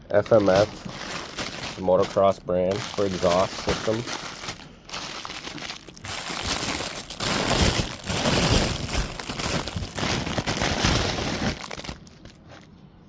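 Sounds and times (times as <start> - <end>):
packaging crinkling: 0.0 - 12.7.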